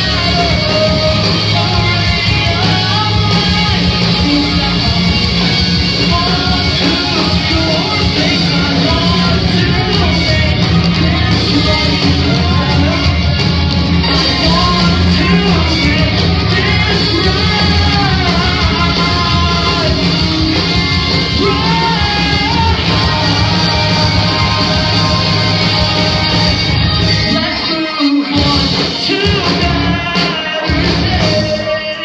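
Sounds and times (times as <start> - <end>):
person singing: 0.0 - 13.4, 14.0 - 32.0
live rock band playing: 0.0 - 32.0.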